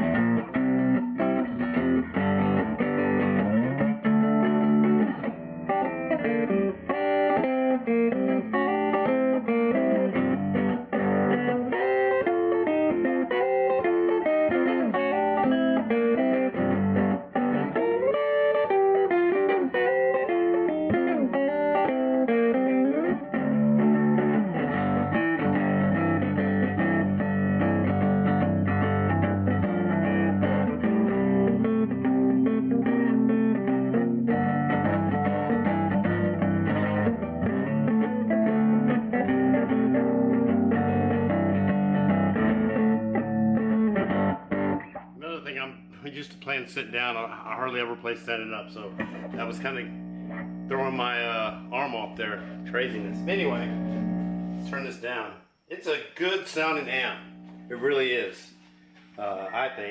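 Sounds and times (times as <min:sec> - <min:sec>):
loud electric guitar: 0:00.0 - 0:55.2, 0:56.8 - 0:58.1.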